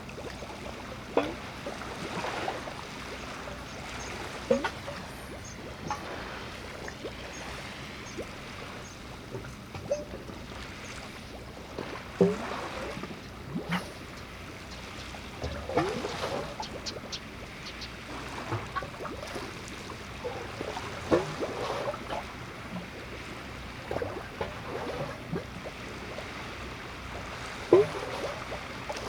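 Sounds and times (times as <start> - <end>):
water lapping against quayside: 0.0 - 29.0.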